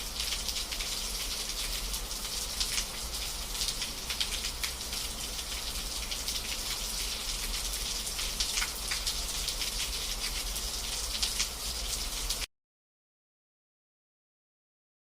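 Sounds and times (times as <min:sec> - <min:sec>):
steady rain: 0:00.0 - 0:12.5.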